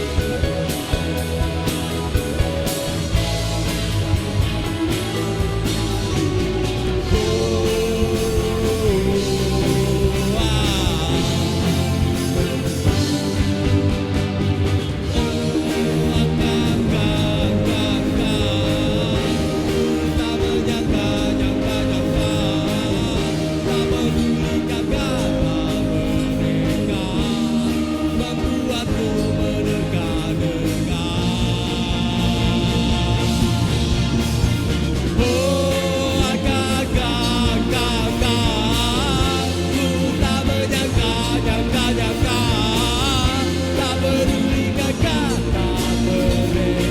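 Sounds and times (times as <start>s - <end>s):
bass: 0.0s - 46.9s
drums: 0.0s - 46.9s
electric guitar note bending: 0.0s - 46.9s
rock band playing live: 0.0s - 46.9s.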